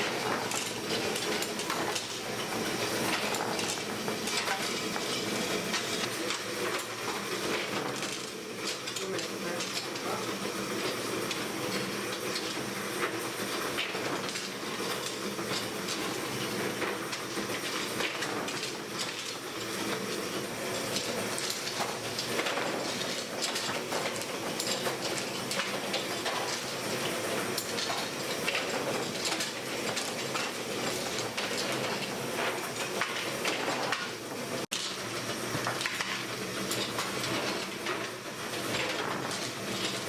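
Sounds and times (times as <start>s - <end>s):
machinery running: 0.0s - 40.0s.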